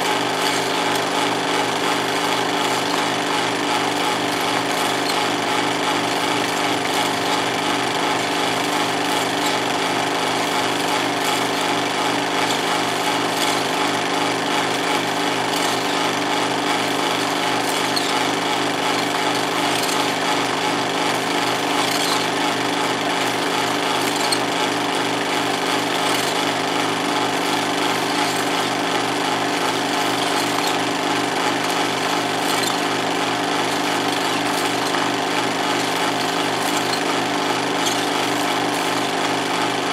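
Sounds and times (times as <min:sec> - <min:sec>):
film projector clatter: 0:00.0 - 0:39.9
motor hum: 0:00.0 - 0:39.9.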